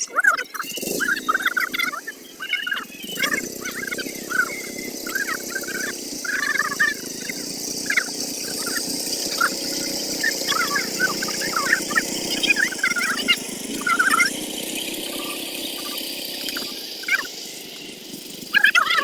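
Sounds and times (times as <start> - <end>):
birds chirping: 0.0 - 19.0
steady high hiss: 0.9 - 19.0.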